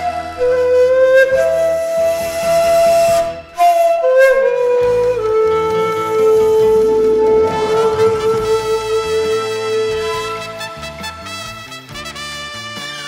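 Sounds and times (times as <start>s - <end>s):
bamboo flute melody: 0.0s - 13.0s
instrumental backing track: 0.0s - 13.0s.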